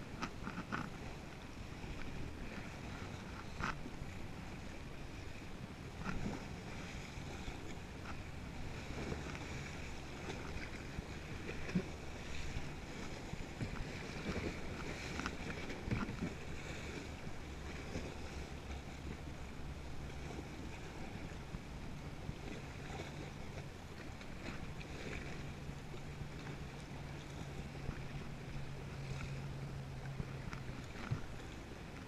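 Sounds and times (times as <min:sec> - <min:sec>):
paddle splashing in water: 0:00.0 - 0:32.0
water sloshing against hull: 0:00.0 - 0:32.0.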